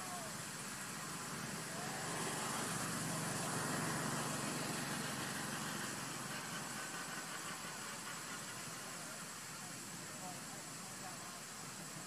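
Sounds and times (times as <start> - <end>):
thin high constant tone: 0.0 - 12.0.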